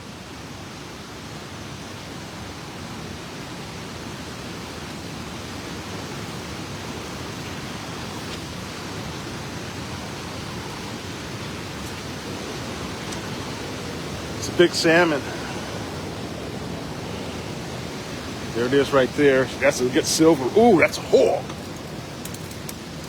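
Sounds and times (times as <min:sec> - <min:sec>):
fast river current: 0:00.0 - 0:23.0
waterfall rushing: 0:03.5 - 0:23.0.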